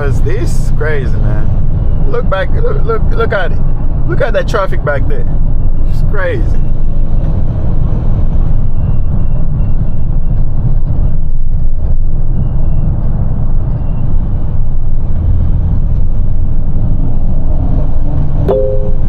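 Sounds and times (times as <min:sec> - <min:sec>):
truck engine low rumble: 0:00.0 - 0:19.0.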